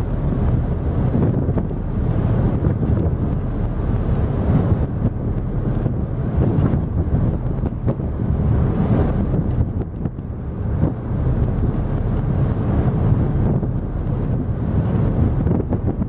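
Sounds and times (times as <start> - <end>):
rush of churning wake: 0.0 - 16.0
wind buffeting microphone: 0.0 - 16.0.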